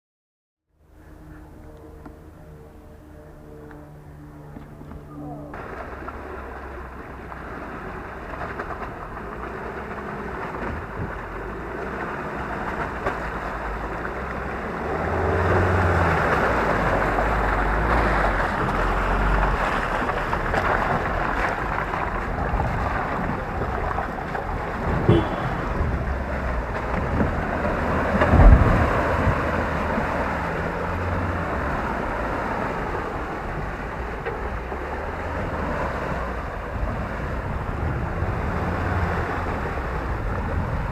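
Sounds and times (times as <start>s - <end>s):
vehicle engine: 0.7s - 40.9s
water splashing and tyres churning: 0.8s - 40.9s.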